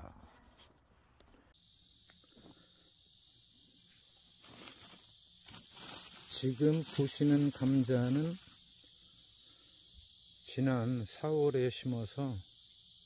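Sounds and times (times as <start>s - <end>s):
faint high hiss: 1.1s - 13.0s.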